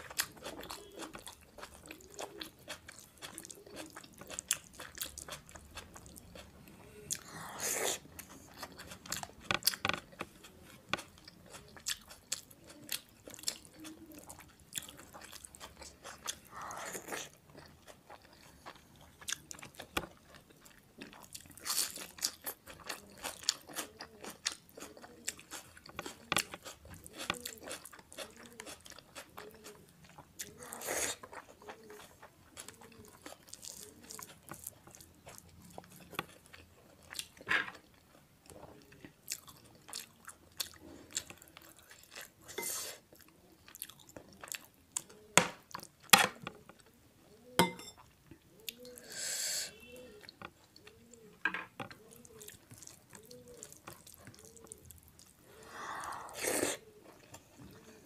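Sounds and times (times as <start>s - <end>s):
wet chewing mouth sounds: 0.0s - 46.1s, 46.8s - 58.0s.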